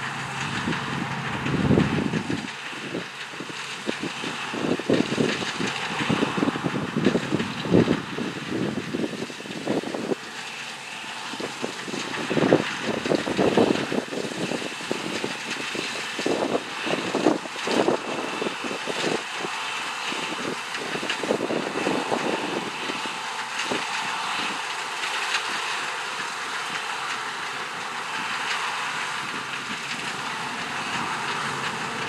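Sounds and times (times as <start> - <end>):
combine harvester running: 0.0 - 32.0
wind buffeting microphone: 0.0 - 32.0.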